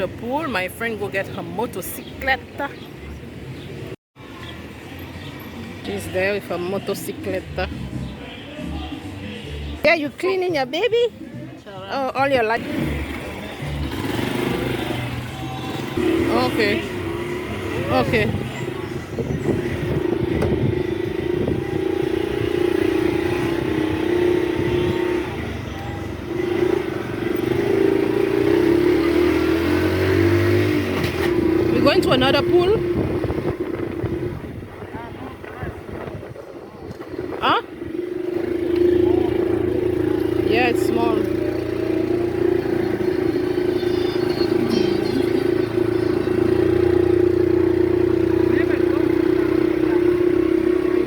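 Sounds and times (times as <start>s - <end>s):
motorcycle engine running: 9.9s - 51.0s.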